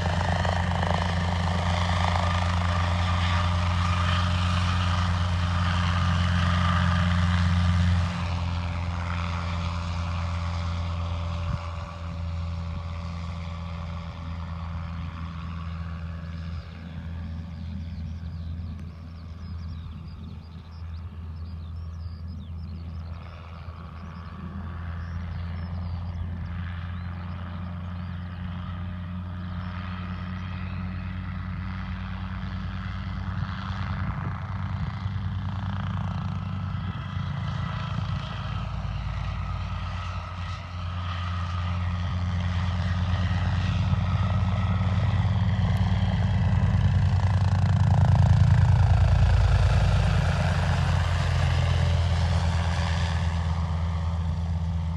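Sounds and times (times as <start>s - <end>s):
helicopter engine and rotor hum: 0.0s - 54.9s.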